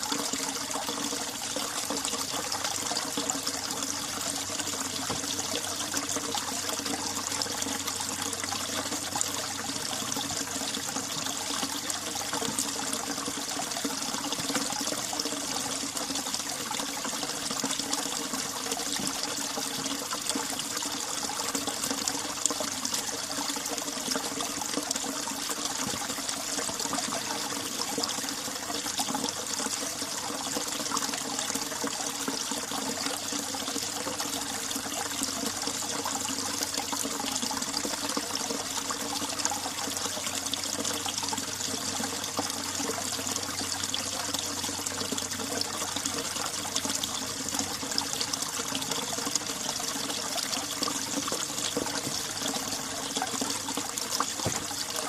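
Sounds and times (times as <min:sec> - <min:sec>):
stream flowing water: 0:00.0 - 0:55.0.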